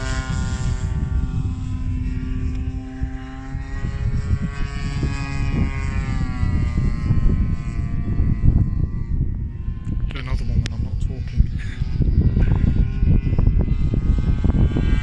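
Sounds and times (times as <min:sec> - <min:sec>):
model plane engine and propeller droning: 0:00.0 - 0:15.0
wind rumble on microphone: 0:00.0 - 0:15.0.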